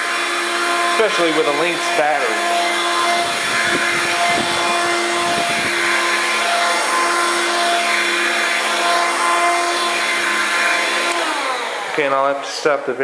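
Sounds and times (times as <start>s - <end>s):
cordless vacuum running: 0.0s - 13.0s.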